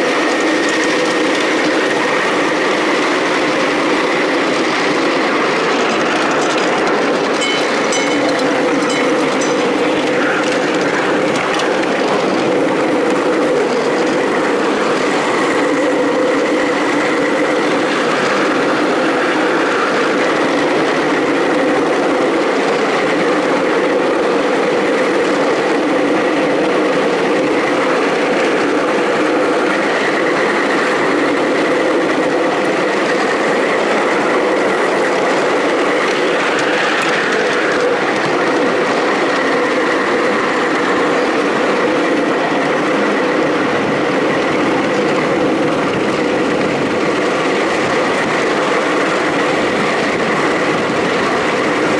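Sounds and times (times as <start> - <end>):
miniature train running on rails: 0.0 - 51.9.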